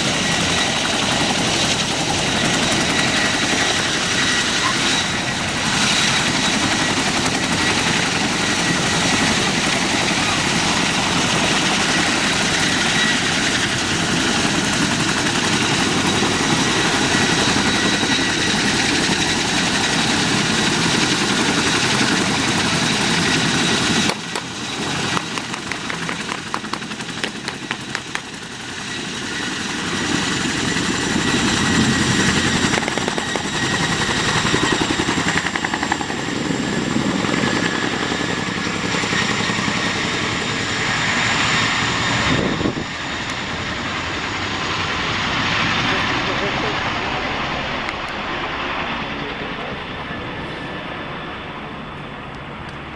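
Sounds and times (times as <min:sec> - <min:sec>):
helicopter engine and rotor: 0:00.0 - 0:52.9
turbine whine: 0:00.0 - 0:52.9.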